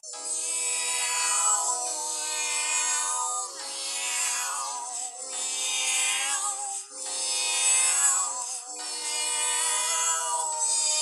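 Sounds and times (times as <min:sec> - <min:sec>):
wordless vocal harmony: 0:00.1 - 0:11.0.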